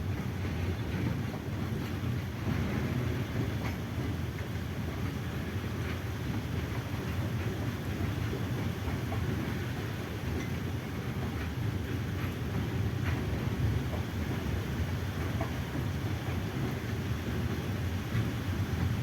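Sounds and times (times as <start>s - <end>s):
wheels clicking on rails: 0.0s - 19.0s.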